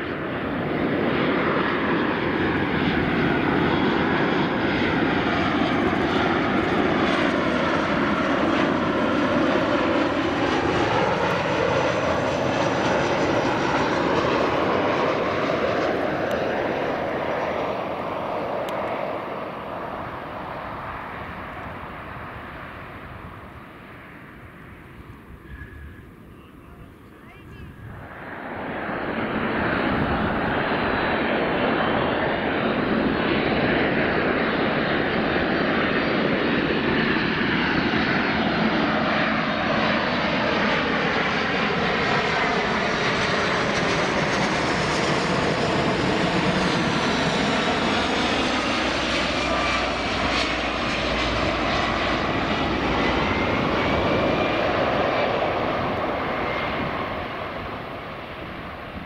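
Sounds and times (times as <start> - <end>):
jet engines roaring overhead: 0.0 - 59.0
sweeping jet whine: 0.0 - 59.0.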